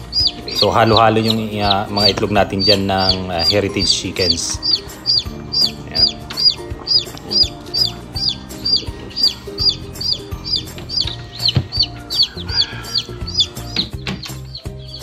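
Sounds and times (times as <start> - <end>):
background music: 0.0 - 15.0
chick peeping: 0.0 - 15.0.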